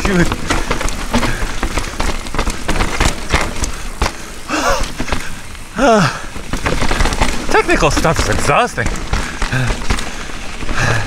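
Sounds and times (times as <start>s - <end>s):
rider groaning: 0.0s - 7.8s, 9.0s - 11.0s
bike rattling and knocking: 0.0s - 11.0s
bike tyres rolling over rocks: 0.0s - 11.0s.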